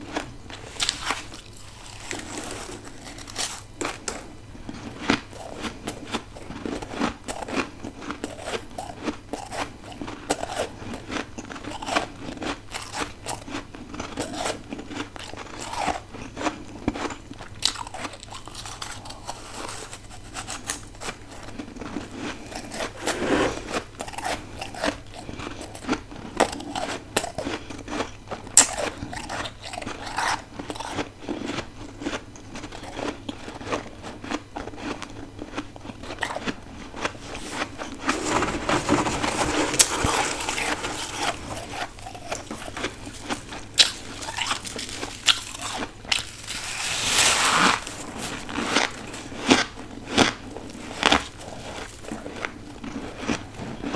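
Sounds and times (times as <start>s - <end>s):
person chewing ice: 0.0s - 53.9s.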